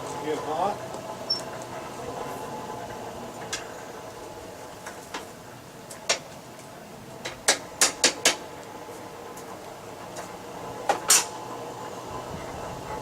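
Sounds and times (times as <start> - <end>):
hand-cranked forge blower running: 0.0 - 13.0.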